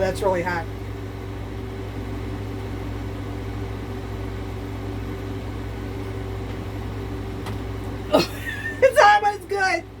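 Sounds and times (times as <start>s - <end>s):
air conditioner humming: 0.0s - 10.0s
faint steady whine: 0.0s - 10.0s.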